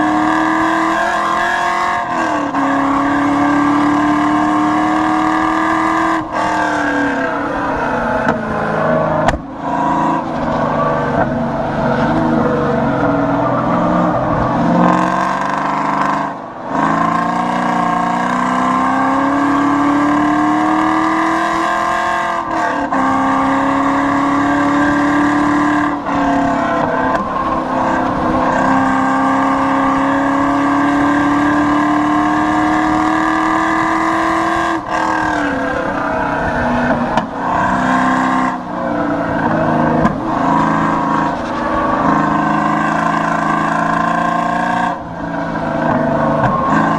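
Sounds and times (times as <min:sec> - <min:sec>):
car engine revving hard: 0:00.0 - 0:46.9.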